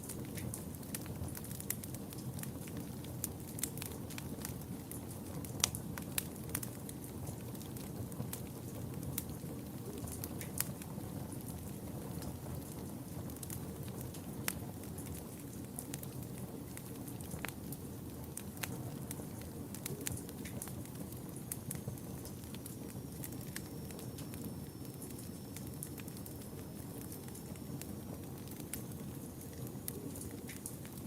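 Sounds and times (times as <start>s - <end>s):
burning wood crackling and popping: 0.0s - 31.0s.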